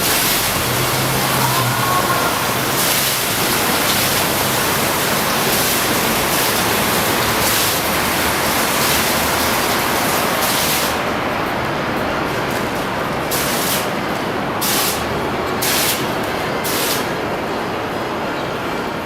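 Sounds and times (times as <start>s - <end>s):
fountain water splashing: 0.0s - 17.8s.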